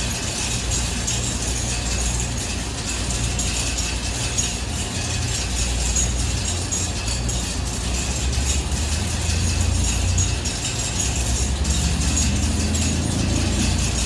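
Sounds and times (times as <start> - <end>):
light rattling and ticking: 0.0 - 14.0
washing machine running: 0.0 - 14.0.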